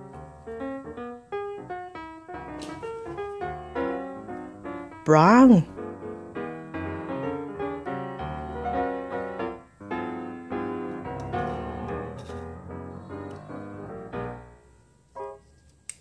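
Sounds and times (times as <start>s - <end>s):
gentle piano music: 0.0s - 5.0s, 5.8s - 15.5s.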